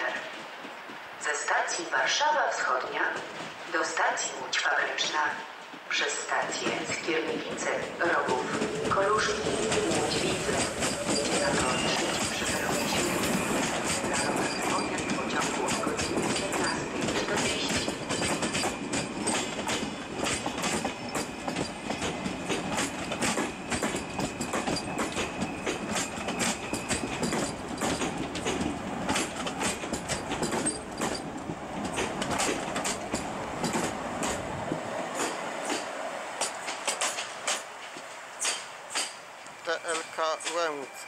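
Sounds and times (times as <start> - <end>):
train rumble: 0.0 - 41.0
train wheels clattering over rail joints: 6.6 - 41.0.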